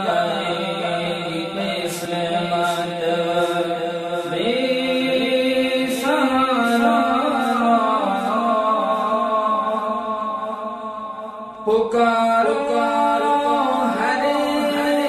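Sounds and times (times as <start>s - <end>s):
chanted vocal melody: 0.0s - 15.0s.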